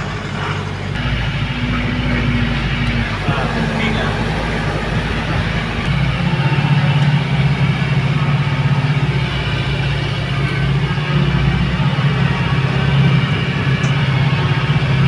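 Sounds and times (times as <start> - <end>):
truck engine humming: 0.0 - 15.0.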